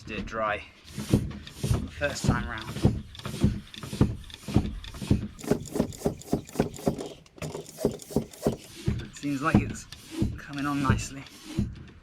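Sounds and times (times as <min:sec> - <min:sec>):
bicycle pump strokes: 0:00.9 - 0:11.8.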